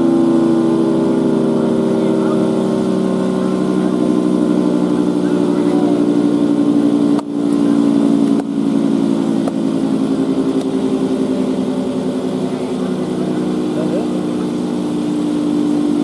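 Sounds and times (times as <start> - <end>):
rotating siren chord: 0.0 - 16.0.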